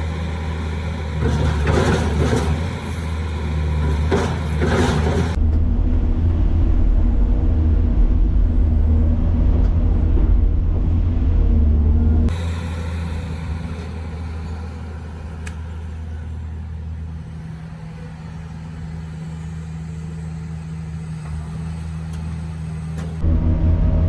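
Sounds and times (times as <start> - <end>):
heavy machine engine humming: 0.0 - 24.0.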